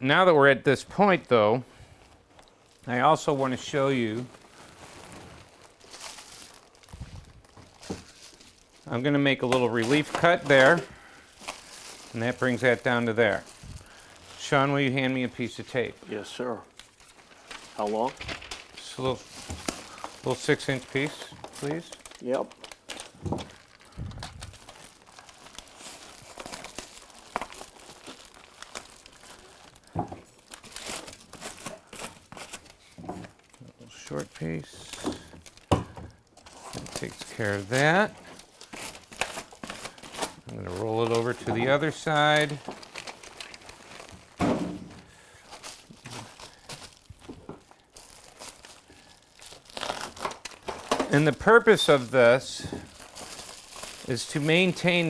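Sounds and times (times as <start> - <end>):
foil insulation crinkling: 0.9 - 55.0.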